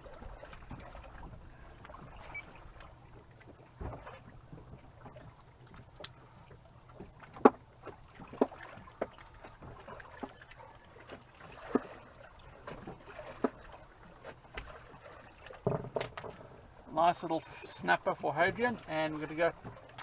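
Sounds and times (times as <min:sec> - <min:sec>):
knocks and clatters in boat: 0:00.0 - 0:20.0.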